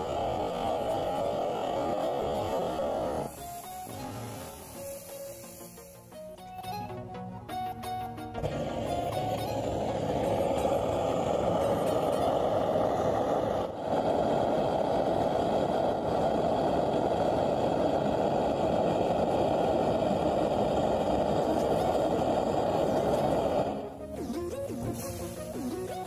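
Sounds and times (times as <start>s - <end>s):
gas torch flame hissing: 0.0s - 6.8s, 7.9s - 26.0s.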